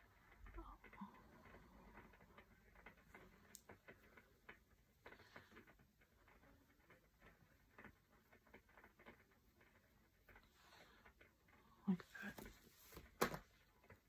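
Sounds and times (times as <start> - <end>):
faint small ticks and clicks: 0.0 - 14.0.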